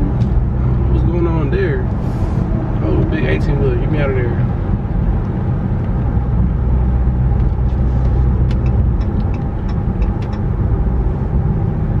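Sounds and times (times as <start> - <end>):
car cabin road and engine drone: 0.0 - 12.0.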